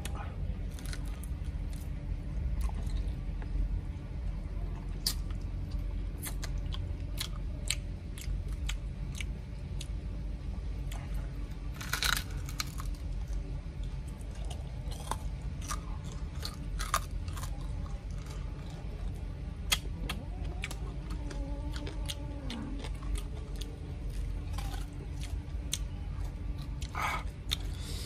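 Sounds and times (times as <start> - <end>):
crunchy chewing and biting: 0.0 - 3.9, 4.8 - 28.0.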